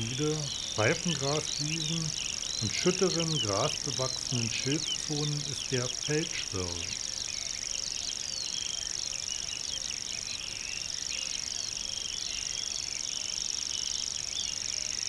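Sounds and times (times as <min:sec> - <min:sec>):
other birds chirping: 0:00.0 - 0:13.5
bird reeling trill: 0:00.0 - 0:14.6.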